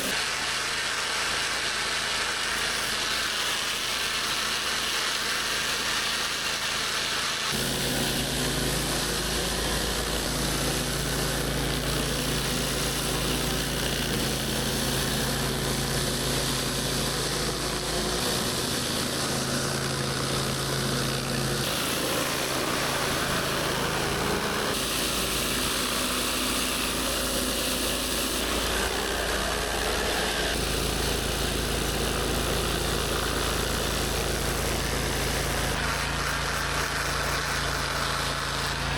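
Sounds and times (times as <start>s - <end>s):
high-pressure spray hissing: 0.0s - 15.4s, 18.0s - 38.9s
pressure washer engine running: 0.0s - 38.9s.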